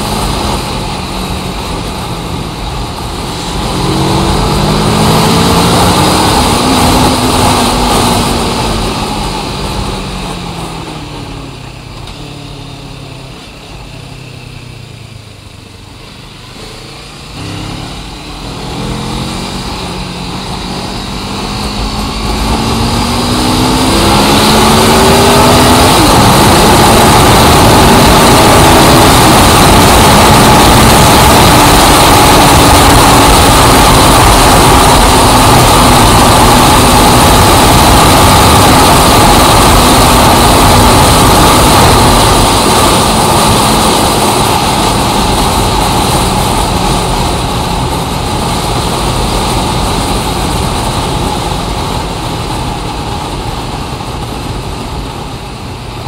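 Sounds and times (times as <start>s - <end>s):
vehicle engine revving: 0.0s - 56.0s.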